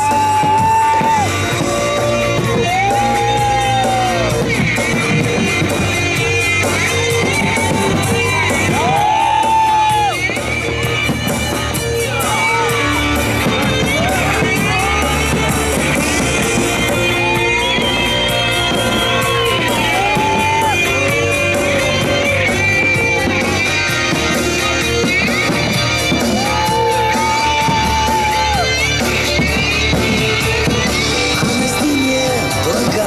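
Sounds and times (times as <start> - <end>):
crowd shouting faintly: 0.0 - 33.0
steady bass: 0.0 - 33.0.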